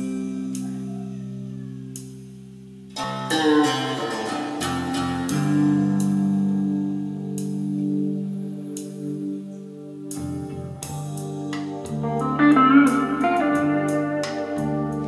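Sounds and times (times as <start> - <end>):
guitar music over loudspeakers: 0.0 - 1.8, 3.0 - 15.0.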